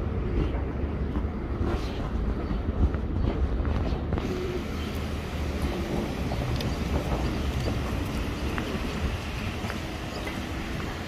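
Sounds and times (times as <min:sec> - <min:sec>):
low rumble of traffic: 0:00.0 - 0:11.0
wind buffeting microphone: 0:00.0 - 0:11.0.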